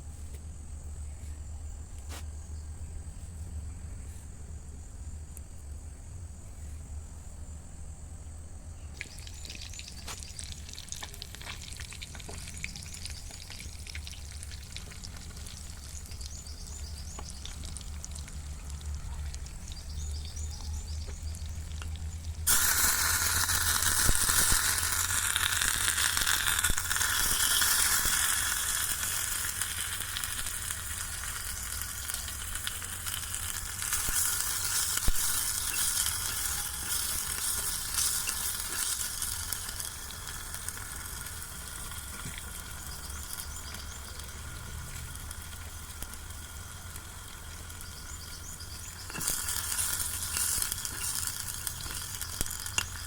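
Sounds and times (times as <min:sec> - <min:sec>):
food sizzling in hot oil: 0:09.0 - 0:53.0.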